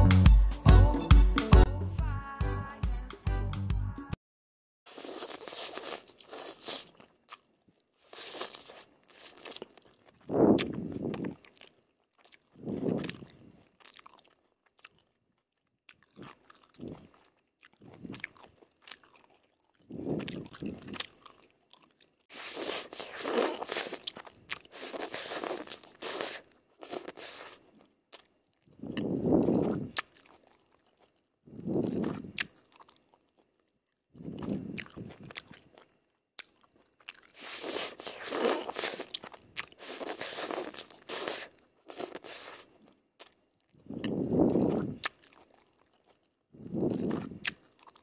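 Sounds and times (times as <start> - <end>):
close chewing noodles: 4.9 - 48.0.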